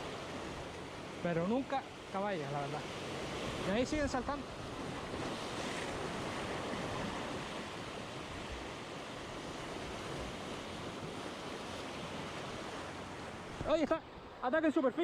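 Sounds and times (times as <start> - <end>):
surf washing against rocks: 0.0 - 15.0.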